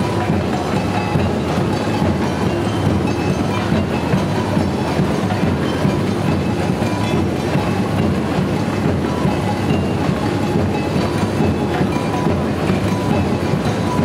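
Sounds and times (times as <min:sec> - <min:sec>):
snare drums: 0:00.0 - 0:14.0.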